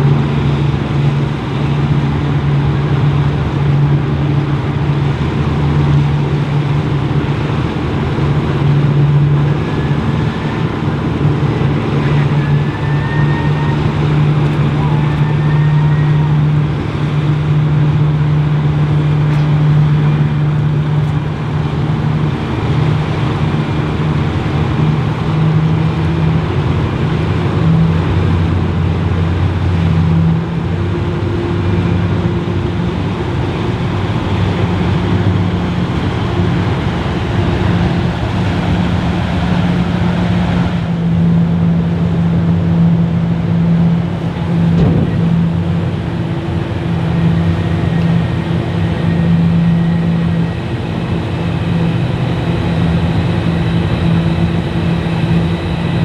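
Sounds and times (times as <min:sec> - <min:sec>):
ferry engines droning: 0:00.0 - 0:56.0
rush of churned water: 0:00.0 - 0:56.0.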